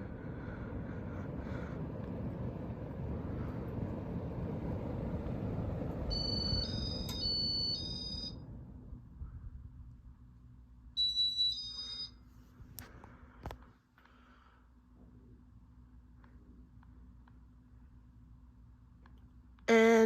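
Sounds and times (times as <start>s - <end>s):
ceiling fan running: 0.0s - 20.0s.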